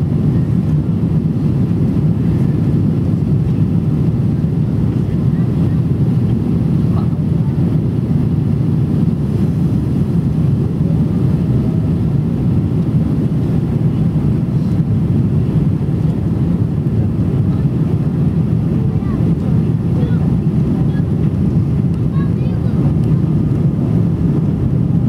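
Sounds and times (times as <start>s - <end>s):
jet engines and airflow rumble: 0.0s - 25.0s.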